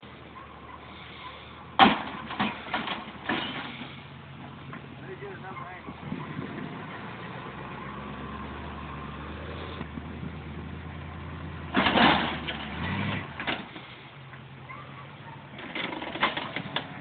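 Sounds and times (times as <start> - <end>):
vehicle engine idling: 0.1 - 17.0.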